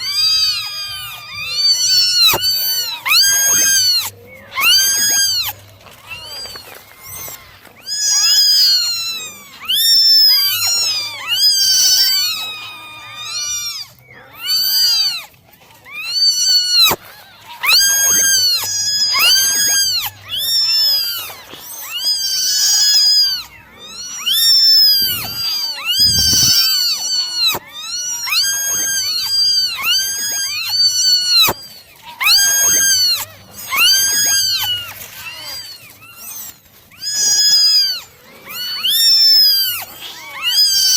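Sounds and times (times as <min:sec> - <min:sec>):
kittens meowing: 0:00.0 - 0:40.9.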